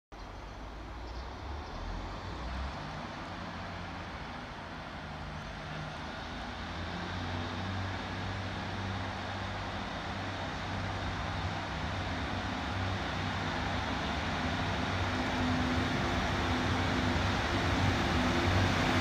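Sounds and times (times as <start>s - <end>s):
outdoor noise: 0.1s - 19.0s
diesel train engine drone: 0.2s - 19.0s
train rumble: 0.5s - 19.0s.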